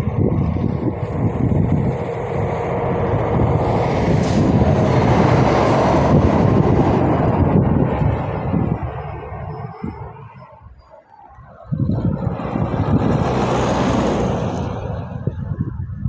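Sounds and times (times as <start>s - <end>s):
heavy truck passing: 0.0s - 16.0s.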